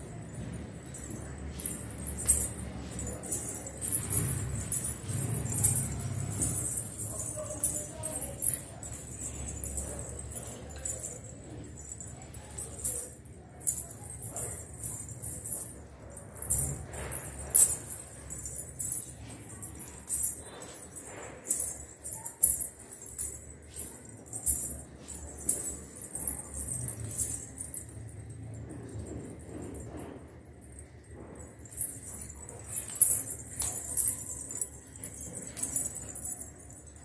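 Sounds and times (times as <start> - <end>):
anklet bells jingling: 0.0 - 37.0.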